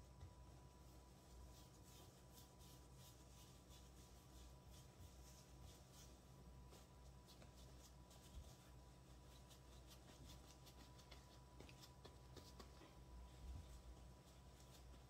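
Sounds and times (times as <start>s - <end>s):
faint steady hum: 0.0s - 15.0s
hands rolling bread dough: 0.0s - 15.0s.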